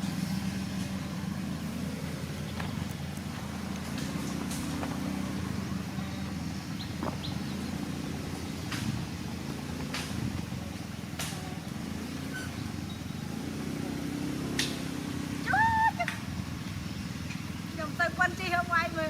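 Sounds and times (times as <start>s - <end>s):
diesel engine running at low revs: 0.0s - 19.0s.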